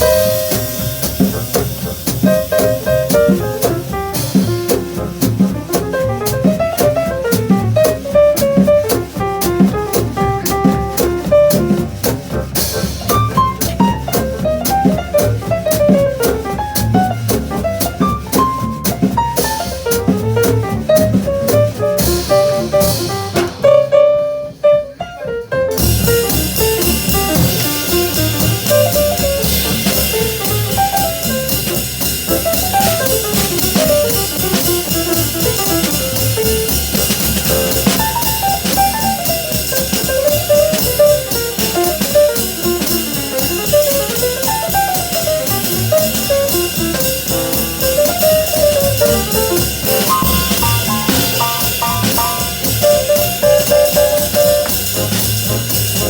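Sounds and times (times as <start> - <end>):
drum kit and cymbals: 0.0 - 56.0
small jazz band playing: 0.0 - 56.0.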